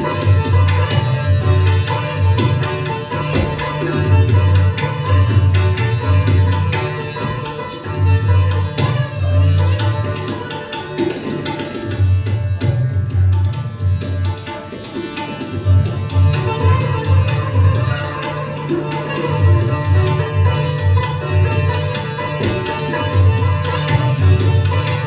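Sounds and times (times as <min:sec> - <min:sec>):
plucked sitar notes: 0:00.0 - 0:25.0
tabla strokes: 0:00.0 - 0:25.0.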